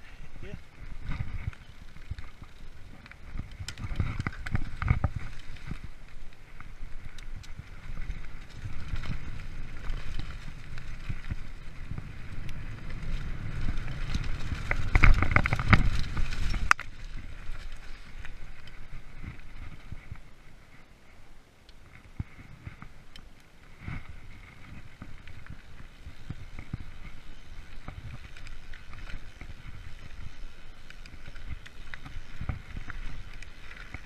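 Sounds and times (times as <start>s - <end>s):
bike clicks and rattles: 0.0s - 20.9s, 21.6s - 34.0s
bike tyres rumbling on trail: 0.0s - 34.0s.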